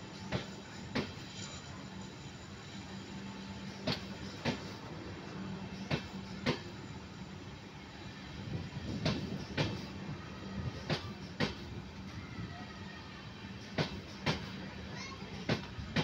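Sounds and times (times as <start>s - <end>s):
train wheels clacking over track: 0.0s - 7.4s, 8.4s - 12.6s, 13.4s - 16.0s.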